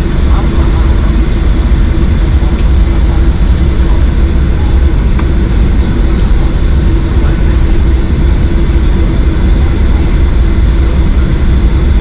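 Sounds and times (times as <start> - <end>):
jet engines idling from cabin: 0.0 - 12.0.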